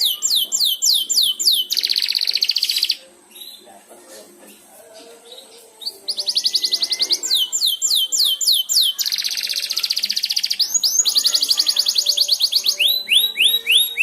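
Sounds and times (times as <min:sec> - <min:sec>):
canary singing trills: 0:00.0 - 0:03.8, 0:04.8 - 0:14.0.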